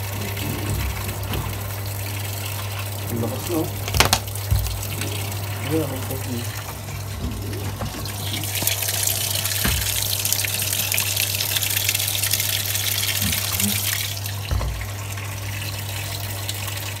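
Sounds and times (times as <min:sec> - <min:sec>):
water gushing into washing machine: 0:00.0 - 0:17.0.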